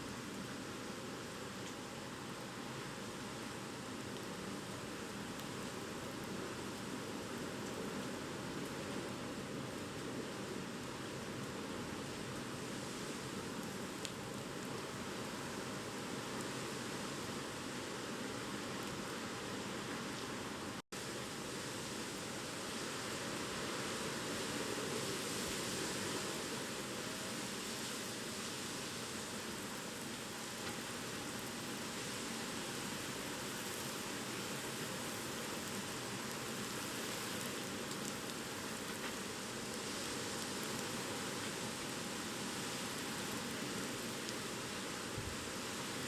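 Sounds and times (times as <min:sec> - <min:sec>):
wind and rain rushing: 0:00.0 - 0:46.0.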